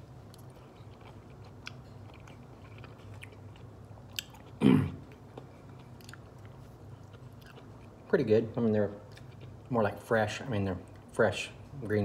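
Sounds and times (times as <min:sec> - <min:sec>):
man chewing green beans: 0:00.0 - 0:11.2.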